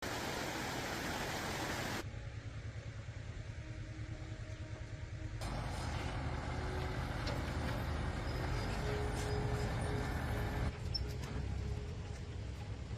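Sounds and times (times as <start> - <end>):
low engine-like rumble: 1.4 - 12.9.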